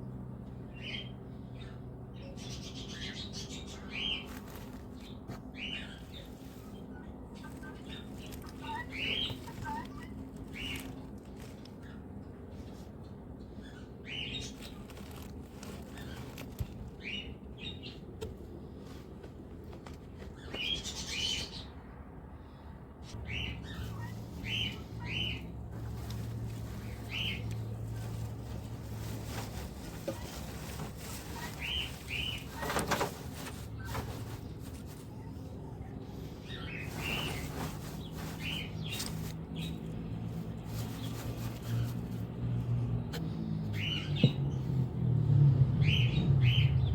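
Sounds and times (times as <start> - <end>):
small birds chirping: 0.0 - 21.8, 22.4 - 46.9.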